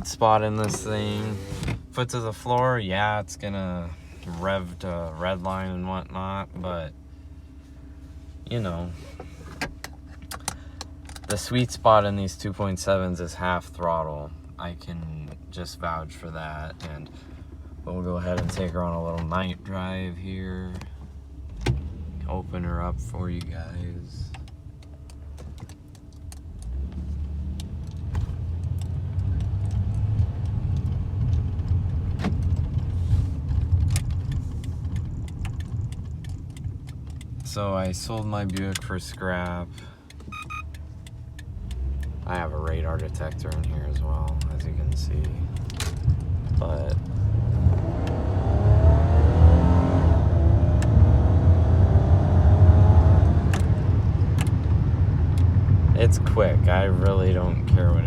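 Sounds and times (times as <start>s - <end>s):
car engine under heavy throttle: 0.0s - 58.0s
low road rumble: 0.0s - 58.0s.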